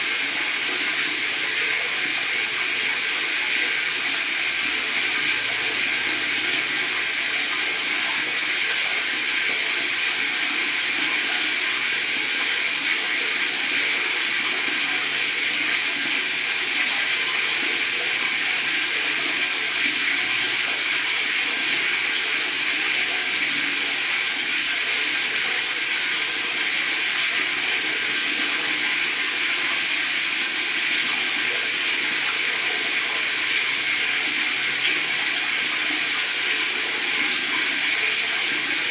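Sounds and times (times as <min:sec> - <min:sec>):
tap water running into bathtub: 0:00.0 - 0:38.9.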